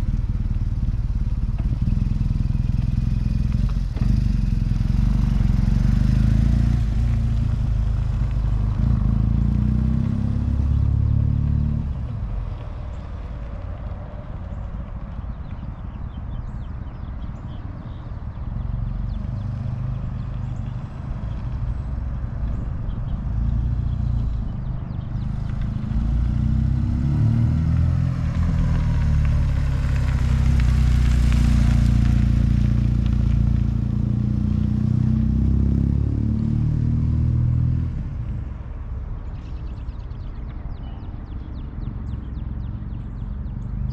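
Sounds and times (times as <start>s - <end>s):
motorcycle engine approaching: 0.0s - 43.9s.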